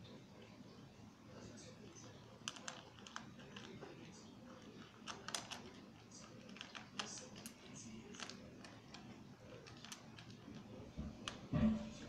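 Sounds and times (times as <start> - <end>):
cat crunching dry kibble: 1.6 - 12.0.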